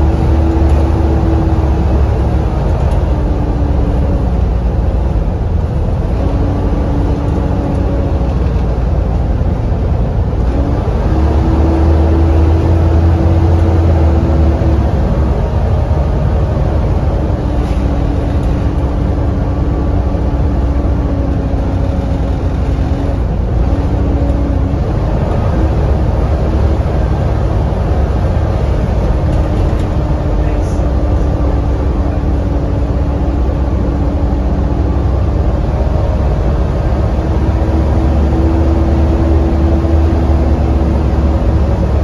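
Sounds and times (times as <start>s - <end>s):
bus engine drone: 0.0s - 42.0s.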